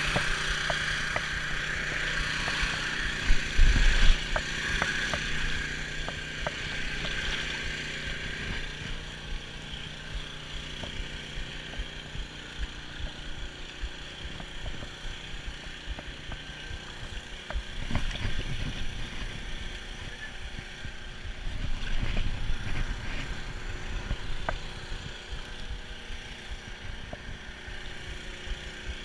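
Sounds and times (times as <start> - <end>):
generator engine humming: 0.0 - 29.0.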